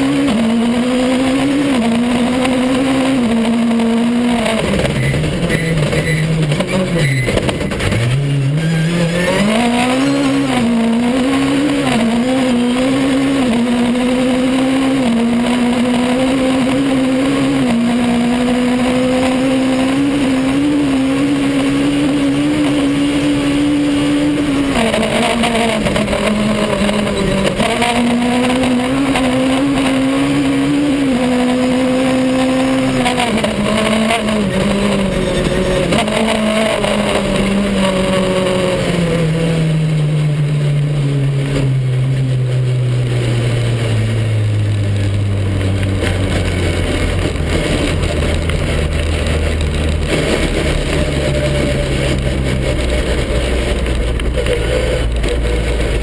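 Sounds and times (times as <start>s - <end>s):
rally car engine revving hard: 0.0s - 56.0s.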